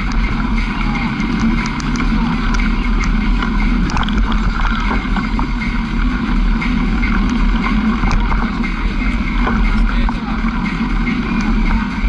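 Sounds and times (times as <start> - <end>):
knocks and rattles: 0.0 - 12.0
vehicle engine running: 0.0 - 12.0.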